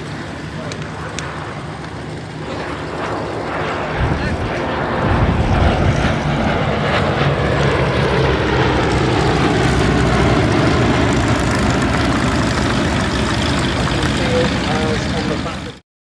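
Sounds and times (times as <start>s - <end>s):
aircraft engines running loud: 0.0s - 15.8s.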